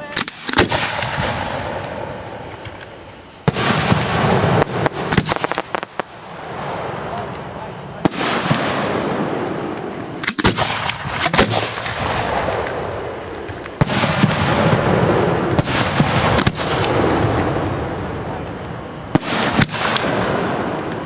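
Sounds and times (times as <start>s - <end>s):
firework bangs: 0.0s - 21.0s
firework crackle: 0.0s - 21.0s.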